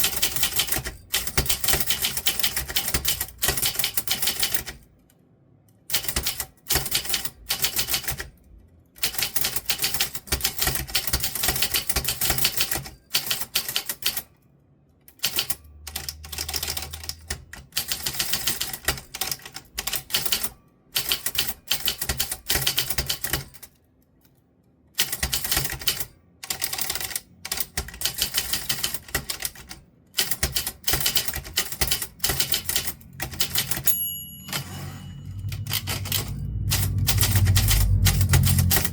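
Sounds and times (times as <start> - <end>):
typewriter typing: 0.0 - 4.8, 5.9 - 8.4, 9.0 - 14.3, 15.2 - 23.7, 25.0 - 38.9.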